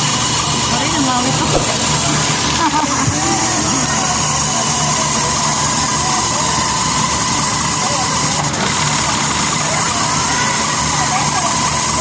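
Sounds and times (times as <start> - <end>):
industrial sewing machines running: 0.0 - 12.0.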